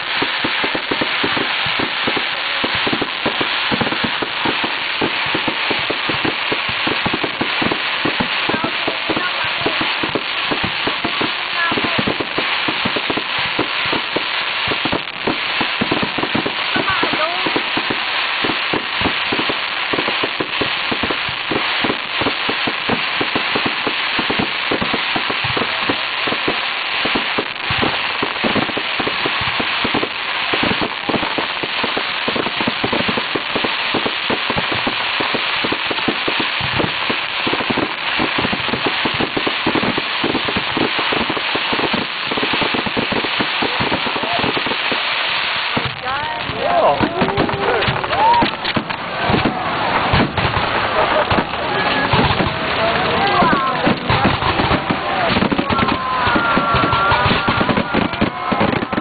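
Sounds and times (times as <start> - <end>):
fireworks crackling and popping: 0.0 - 59.0.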